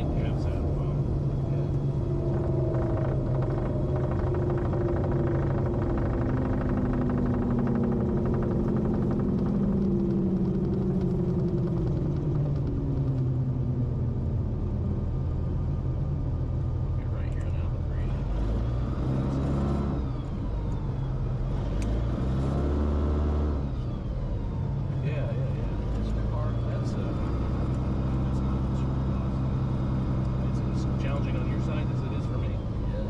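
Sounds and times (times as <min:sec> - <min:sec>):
aircraft engine hum: 0:00.0 - 0:22.2, 0:23.6 - 0:33.0.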